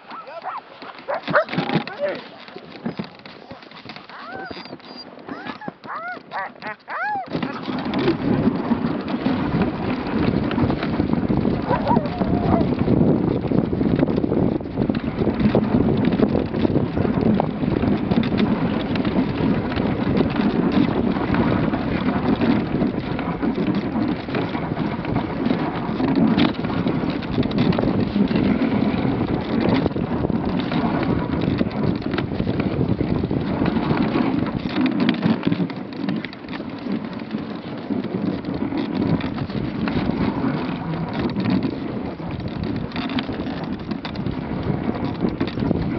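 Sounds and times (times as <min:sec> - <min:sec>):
sled runners sliding over snow: 0:00.0 - 0:45.9
wind on microphone: 0:00.0 - 0:45.9.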